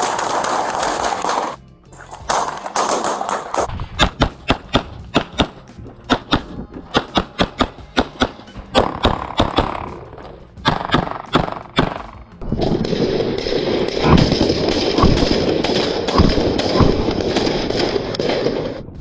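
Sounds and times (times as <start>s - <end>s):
pistol shots: 0.0s - 1.6s, 2.3s - 18.4s.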